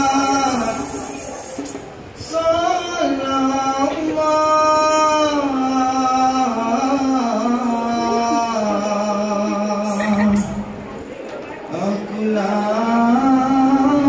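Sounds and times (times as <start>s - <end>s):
man singing unaccompanied: 0.0s - 1.2s, 2.2s - 10.6s, 11.7s - 14.0s.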